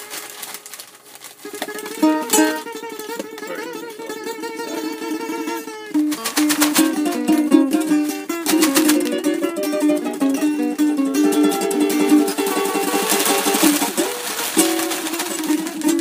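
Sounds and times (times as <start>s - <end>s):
acoustic guitar and ukulele playing: 1.4s - 16.0s.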